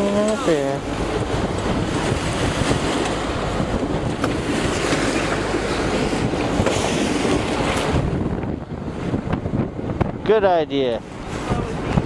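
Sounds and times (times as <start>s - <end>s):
rush of wind and sea: 0.0s - 12.0s.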